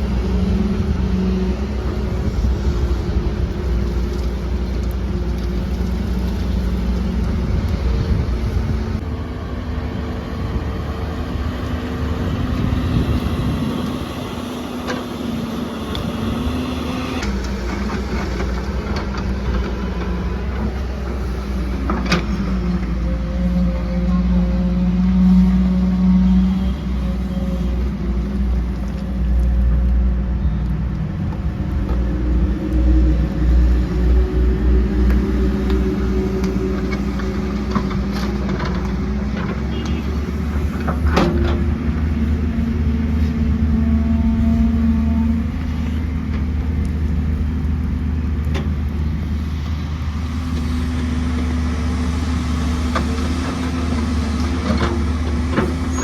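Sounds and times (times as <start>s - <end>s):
heavy diesel machinery rumbling: 0.0s - 56.0s.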